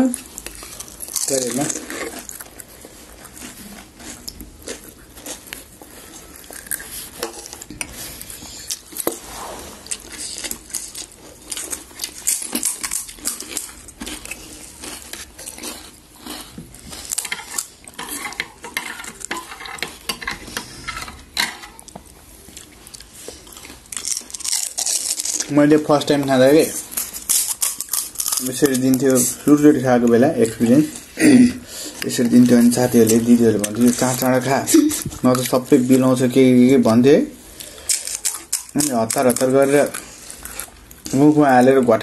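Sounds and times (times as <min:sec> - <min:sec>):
crisp crackles: 0:00.0 - 0:20.1, 0:22.5 - 0:29.9, 0:32.0 - 0:36.6, 0:37.5 - 0:42.0.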